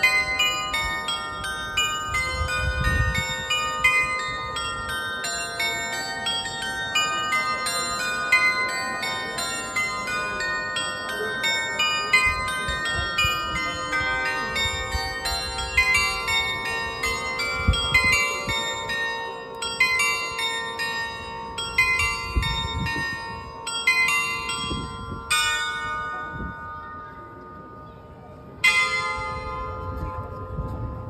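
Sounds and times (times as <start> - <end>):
carillon bells playing melody: 0.0 - 31.0.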